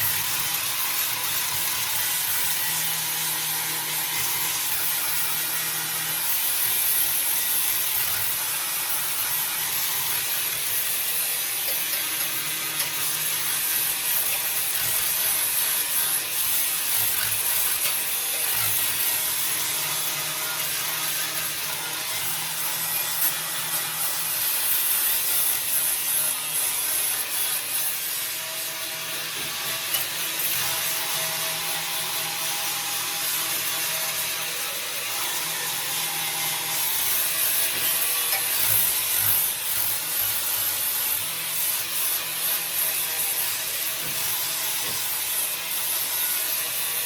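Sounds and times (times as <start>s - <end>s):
tool rasping on metal: 0.0s - 47.0s.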